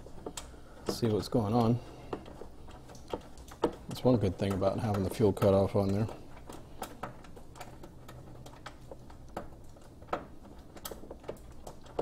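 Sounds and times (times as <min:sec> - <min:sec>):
light clicks and taps: 0:00.0 - 0:12.0.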